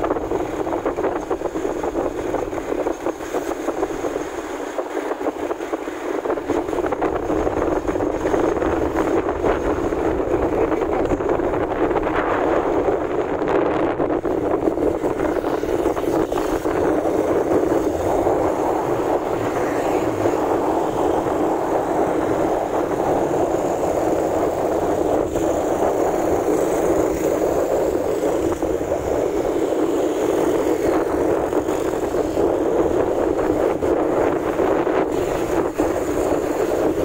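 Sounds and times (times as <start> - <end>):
motorcycle road noise: 0.0 - 37.0
wind buffeting microphone: 0.0 - 37.0.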